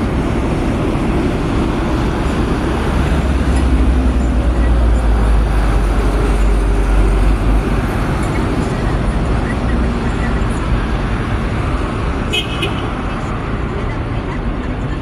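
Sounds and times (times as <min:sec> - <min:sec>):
bus approaching: 0:00.0 - 0:15.0
road traffic passing: 0:00.0 - 0:15.0.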